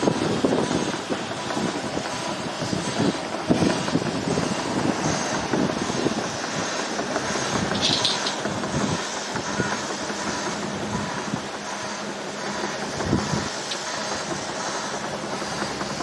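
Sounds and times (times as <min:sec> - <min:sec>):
train rumbling past: 0:00.0 - 0:16.0
wheels rattling and knocking: 0:00.0 - 0:16.0.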